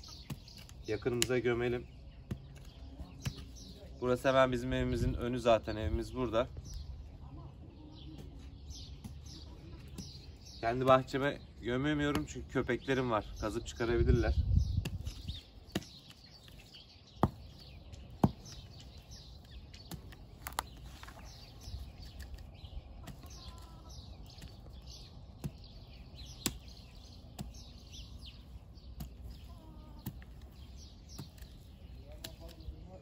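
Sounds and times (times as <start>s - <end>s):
hoe chopping dry soil: 0.0s - 3.7s, 8.1s - 12.9s, 14.6s - 32.9s
small birds chirping: 0.0s - 33.0s.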